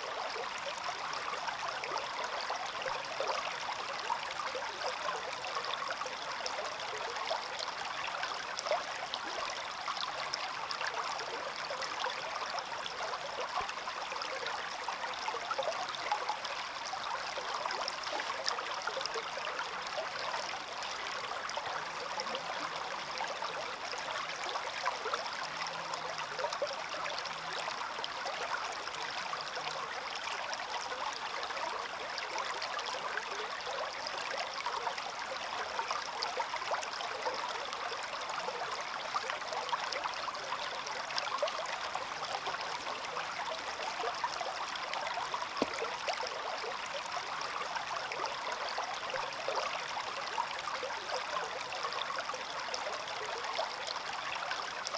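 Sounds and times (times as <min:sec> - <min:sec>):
stream flowing over stones: 0:00.0 - 0:54.9.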